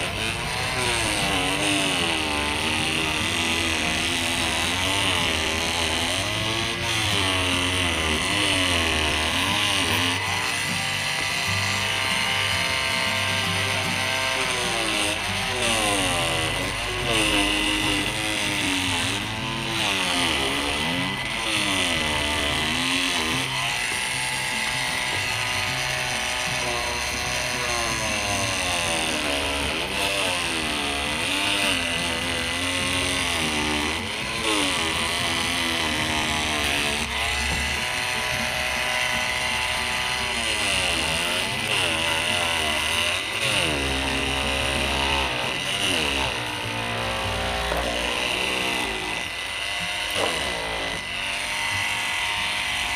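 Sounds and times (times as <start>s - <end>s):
oscillating multi-tool buzzing: 0.0s - 52.9s.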